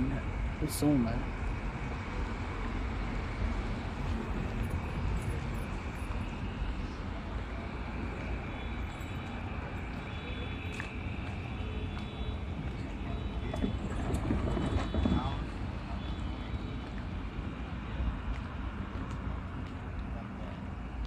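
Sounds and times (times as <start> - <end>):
moving vehicle rumble: 0.0 - 21.0
road noise: 0.0 - 21.0.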